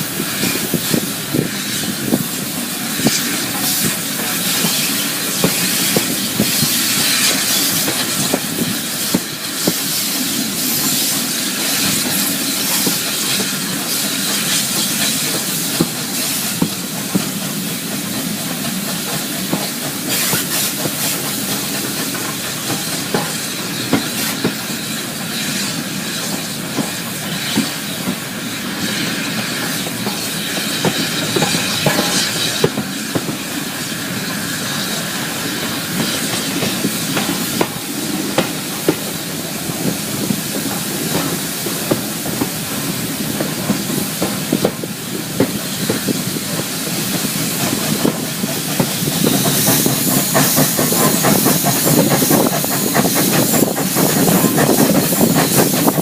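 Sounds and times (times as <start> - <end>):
steam train hissing: 0.0 - 56.0.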